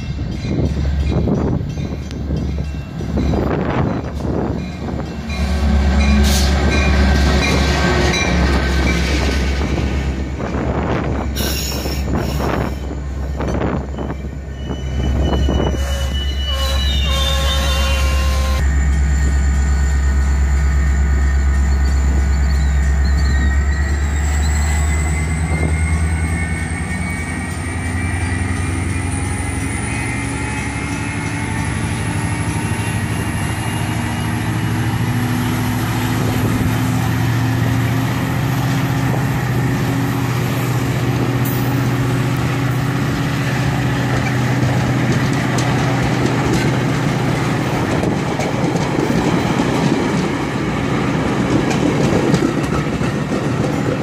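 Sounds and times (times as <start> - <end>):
rising train whine: 0.0 - 54.0
train wheels rumbling on rail: 0.0 - 54.0.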